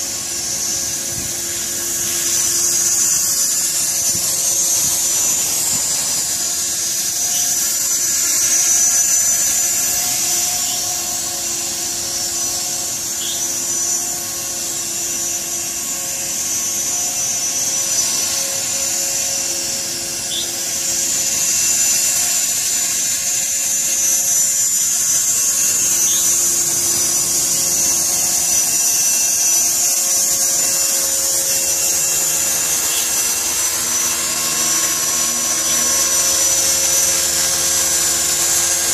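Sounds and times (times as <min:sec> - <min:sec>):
rc helicopter rotors whining: 0:00.0 - 0:38.9.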